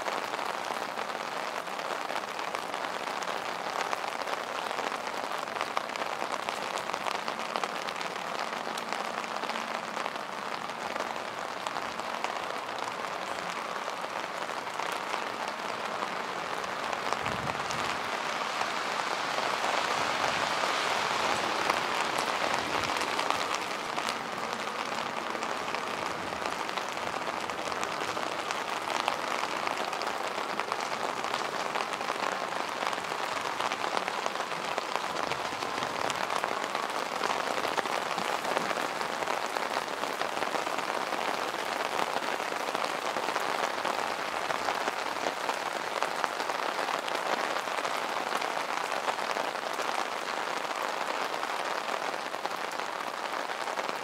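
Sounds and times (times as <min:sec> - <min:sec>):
heavy rain on street: 0:00.0 - 0:54.0.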